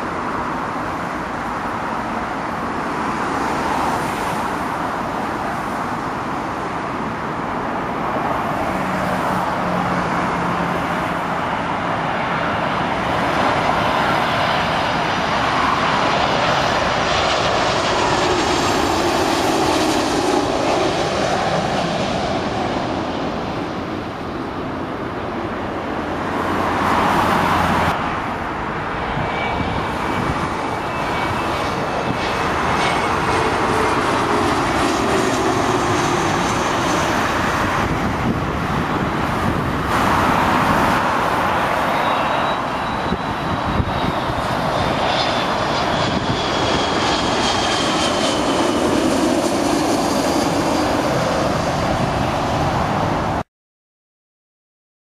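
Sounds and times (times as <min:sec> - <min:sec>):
jet airliners passing overhead: 0:00.0 - 0:53.5.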